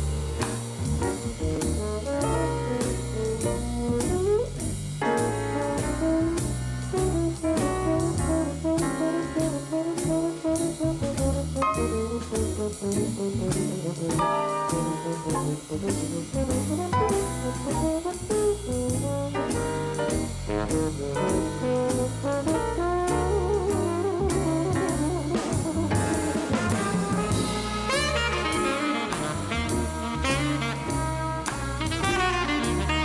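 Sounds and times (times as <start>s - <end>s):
jazz ensemble playing: 0.0s - 33.0s.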